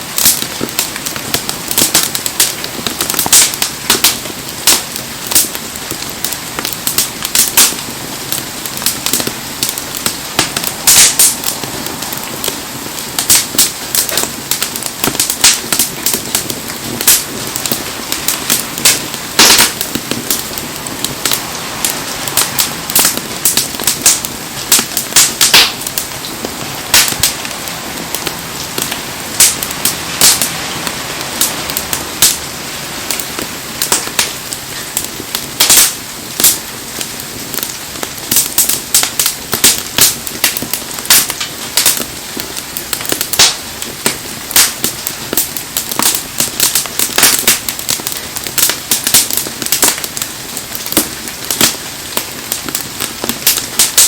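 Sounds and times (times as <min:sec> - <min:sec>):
bonfire crackling and popping: 0:00.0 - 0:54.0
heavy rain hiss: 0:00.0 - 0:54.0.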